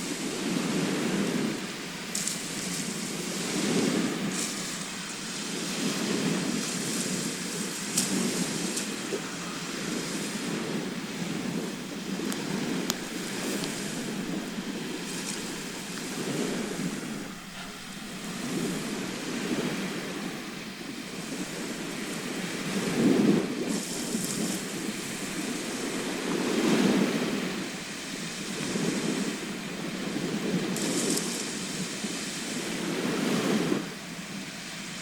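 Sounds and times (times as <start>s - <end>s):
sea waves washing ashore: 0.0s - 35.0s.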